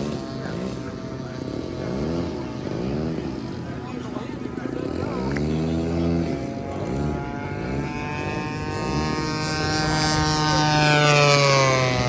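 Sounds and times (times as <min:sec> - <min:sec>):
model plane engines flying: 0:00.0 - 0:12.0.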